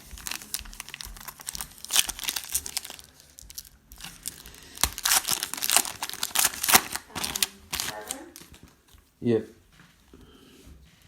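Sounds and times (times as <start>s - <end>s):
card wrappers crinkling and tearing: 0.0s - 9.0s.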